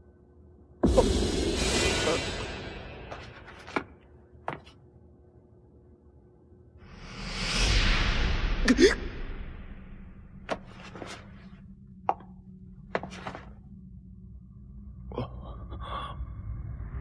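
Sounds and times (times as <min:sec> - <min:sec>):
low steady hum: 0:00.0 - 0:06.8, 0:09.9 - 0:17.0.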